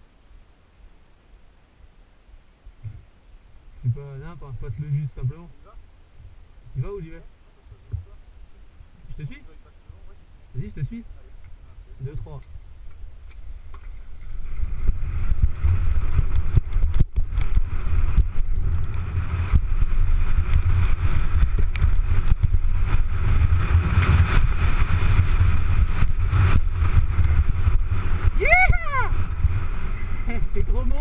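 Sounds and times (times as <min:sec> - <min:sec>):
wind buffeting microphone: 0:03.8 - 0:31.0.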